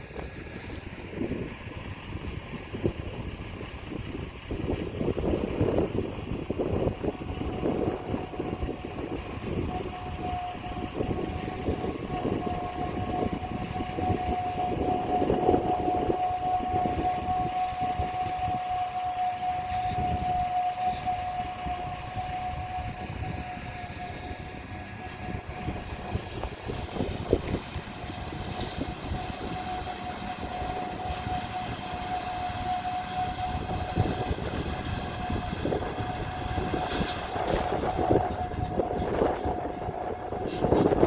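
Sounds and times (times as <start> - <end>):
harvest machinery engine rumble: 0.0 - 41.0
high-pitched machine whine: 0.0 - 41.0.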